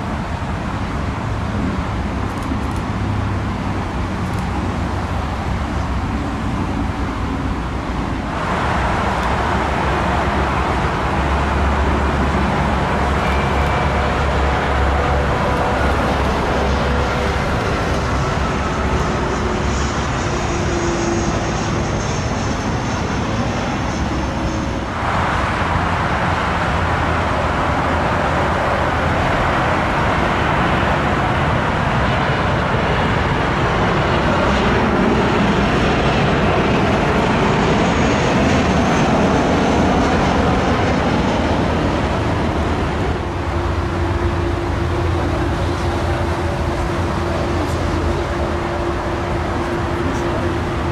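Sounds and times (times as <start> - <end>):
jet engines passing: 0.0 - 50.9
distant jet hum: 1.2 - 50.9.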